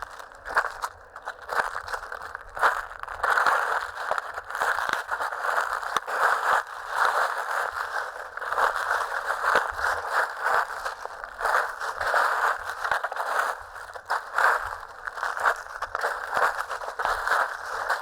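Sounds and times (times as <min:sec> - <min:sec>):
footsteps crunching dry leaves: 0:00.0 - 0:18.0.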